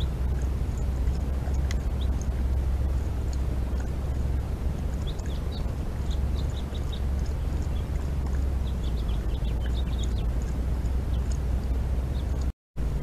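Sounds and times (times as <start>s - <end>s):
animal lapping water from bowl: 0.0s - 12.5s
low rumble and hiss: 0.0s - 13.0s.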